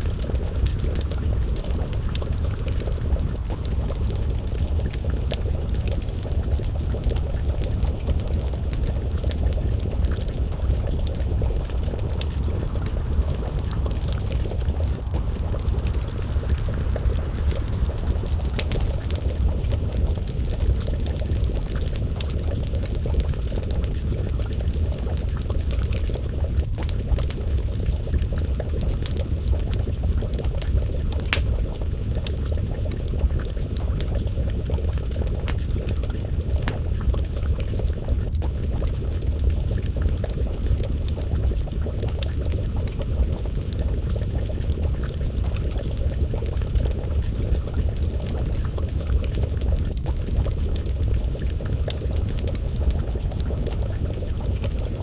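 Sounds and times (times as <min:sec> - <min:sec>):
low rumble: 0:00.0 - 0:55.0
stew bubbling in a pot: 0:00.0 - 0:55.0
wood fire crackling and popping: 0:00.0 - 0:55.0.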